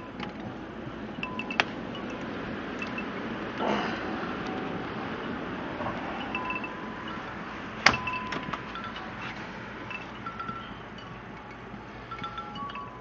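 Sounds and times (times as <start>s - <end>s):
storm wind hiss: 0.0s - 13.0s
wind chimes: 0.0s - 13.0s.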